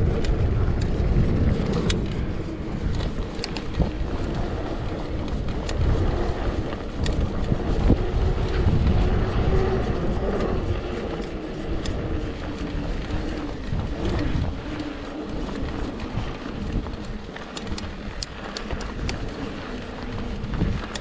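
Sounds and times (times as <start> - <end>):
bike tyre and drivetrain noise: 0.0 - 21.0
wind buffeting microphone: 0.0 - 21.0.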